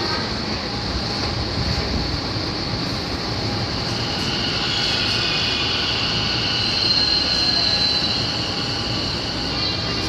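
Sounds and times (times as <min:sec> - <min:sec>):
high whine of electric train: 0:00.0 - 0:10.0
low station rumble: 0:00.0 - 0:10.0.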